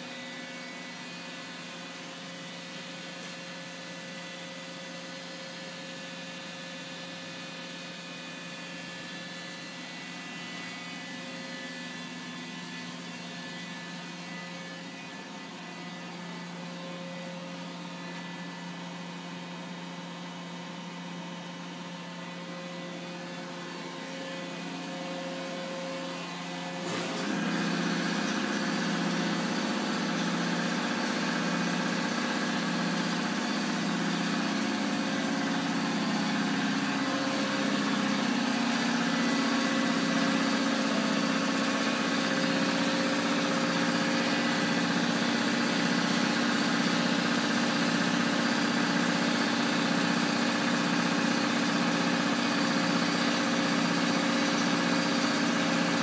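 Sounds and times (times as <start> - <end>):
lathe machine hum: 0.0 - 56.0.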